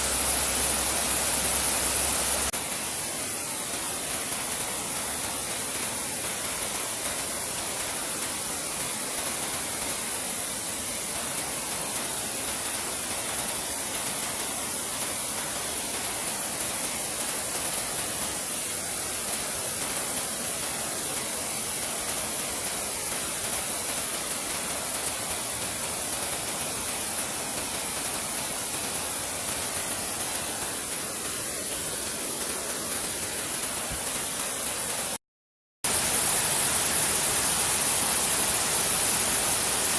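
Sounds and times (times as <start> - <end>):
high-pitched hiss: 0.0 - 35.2, 35.9 - 39.9.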